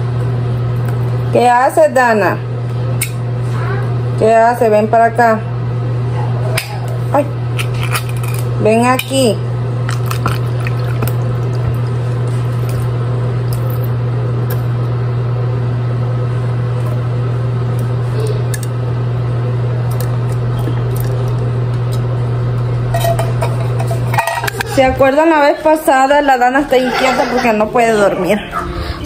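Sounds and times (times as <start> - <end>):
kitchen appliance humming: 0.0 - 29.0.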